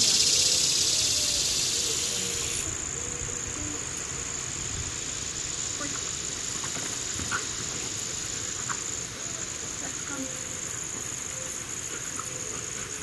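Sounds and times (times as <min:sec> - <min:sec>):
shrill insect chorus: 0:00.0 - 0:13.0.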